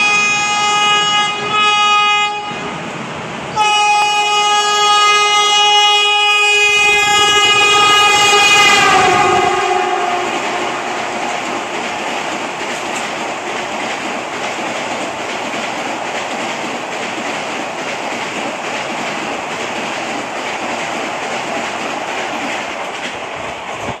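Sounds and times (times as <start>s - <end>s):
train rushing past: 0.0s - 24.0s.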